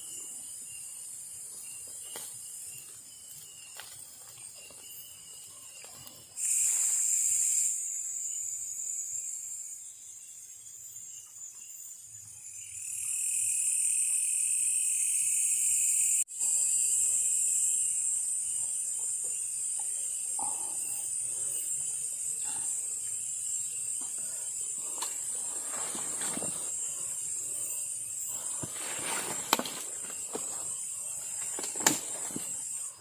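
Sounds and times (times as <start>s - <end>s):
crickets buzzing: 0.0s - 33.0s
low insect trill: 0.0s - 33.0s.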